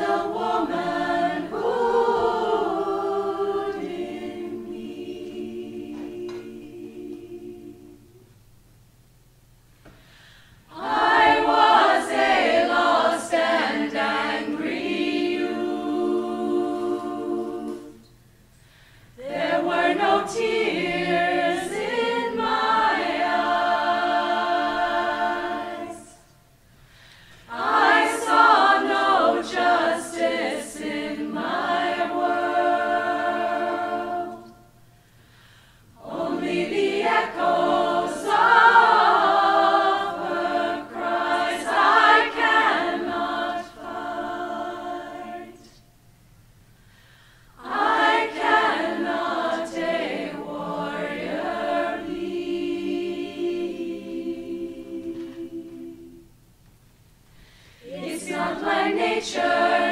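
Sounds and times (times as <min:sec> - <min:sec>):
choir singing a cappella: 0:00.0 - 0:08.5, 0:09.9 - 0:46.1, 0:46.8 - 0:56.4, 0:57.3 - 0:59.9.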